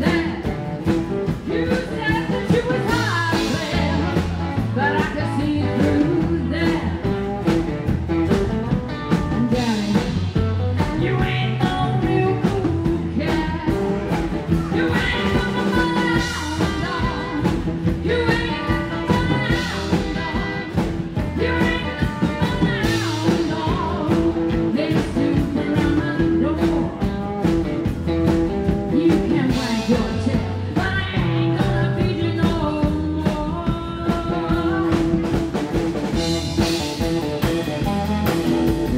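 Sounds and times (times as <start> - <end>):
woman singing: 0.0 - 7.9, 9.0 - 36.8, 38.2 - 38.9
drums: 0.0 - 38.9
electric guitar: 0.0 - 38.9
upright double bass: 0.0 - 38.9.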